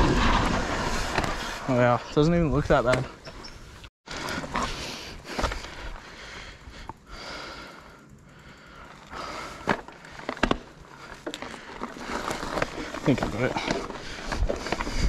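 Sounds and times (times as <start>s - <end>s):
bike tyre rush and rattle: 0.0s - 15.0s.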